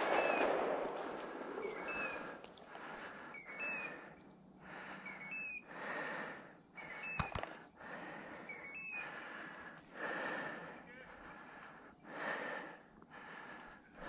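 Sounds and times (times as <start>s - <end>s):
person breathing heavily: 1.0s - 14.0s.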